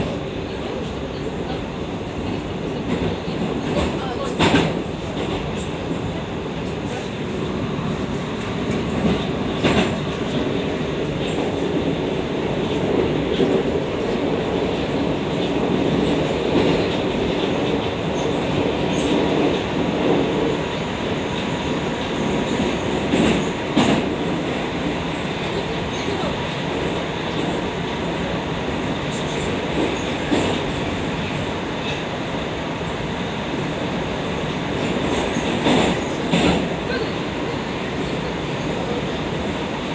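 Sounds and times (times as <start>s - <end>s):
metro train rumbling in tunnel: 0.0s - 39.9s.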